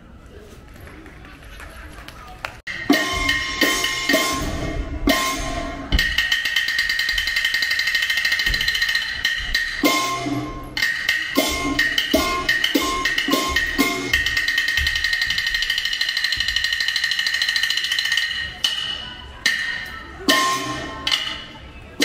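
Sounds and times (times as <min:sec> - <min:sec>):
drum strikes: 0:02.7 - 0:21.5.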